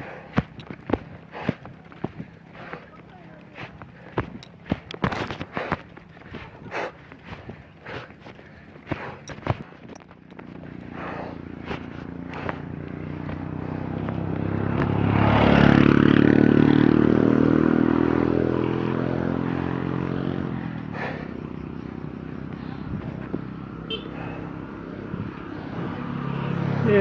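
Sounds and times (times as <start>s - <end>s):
motor vehicle passing by: 0.0s - 27.0s.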